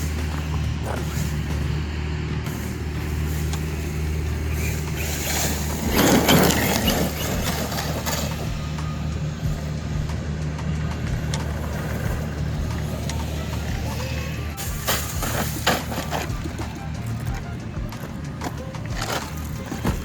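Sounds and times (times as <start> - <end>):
rc truck motor and tyre rush: 0.0 - 20.0
steady low hum: 0.0 - 20.0.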